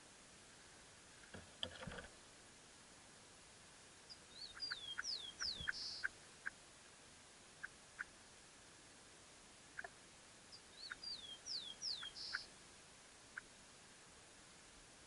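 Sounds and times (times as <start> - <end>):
rustle at nest: 0.0 - 15.0.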